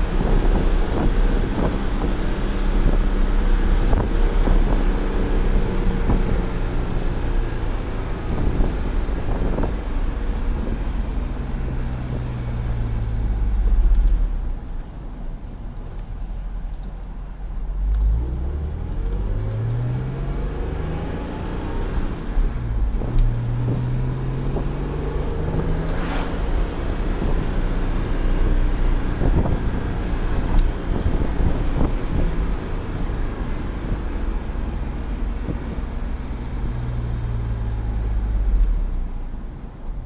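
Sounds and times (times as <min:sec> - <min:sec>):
wind noise: 0:00.0 - 0:14.6, 0:19.2 - 0:38.6
car engine accelerating: 0:00.0 - 0:40.0
road noise: 0:00.0 - 0:40.0.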